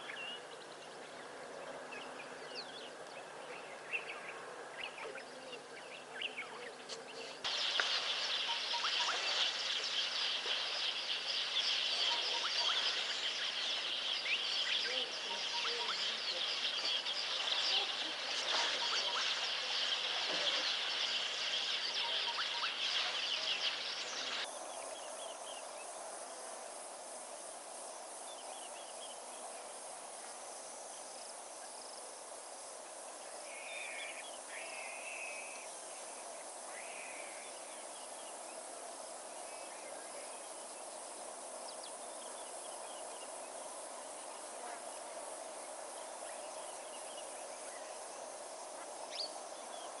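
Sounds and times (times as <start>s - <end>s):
birds chorus: 0.0s - 26.0s, 33.2s - 50.0s
insect hum: 0.0s - 50.0s.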